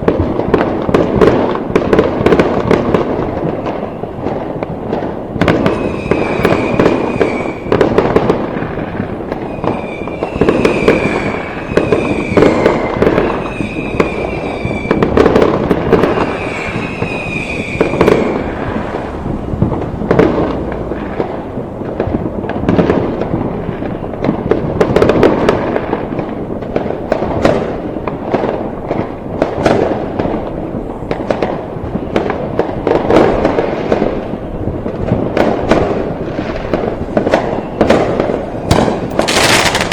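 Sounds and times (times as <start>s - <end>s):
fireworks bangs and crackling: 0.0s - 39.9s
fireworks whistling: 0.0s - 39.9s.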